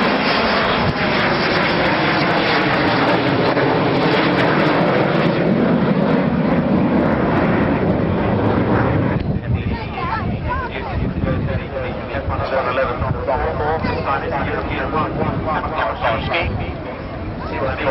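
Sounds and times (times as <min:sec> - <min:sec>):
aircraft engines running: 0:00.0 - 0:17.9.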